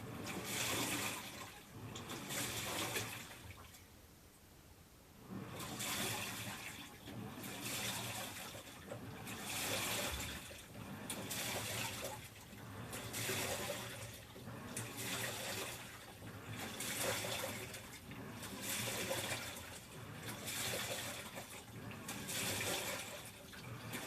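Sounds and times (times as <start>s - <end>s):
water sloshing in washing machine: 0.0s - 4.1s, 5.1s - 24.0s.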